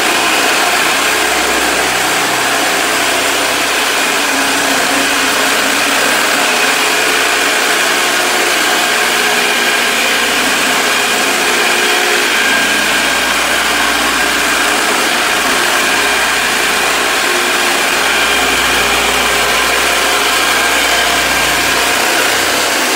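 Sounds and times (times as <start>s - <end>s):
electric floor scraper running: 0.0s - 22.9s.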